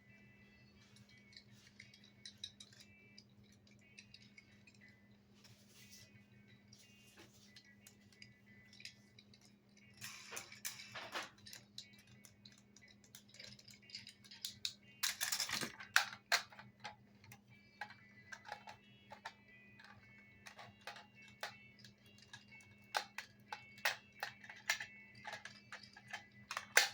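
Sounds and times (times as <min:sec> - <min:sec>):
plastic toys clicking and rattling: 0:00.9 - 0:05.2, 0:06.5 - 0:26.9.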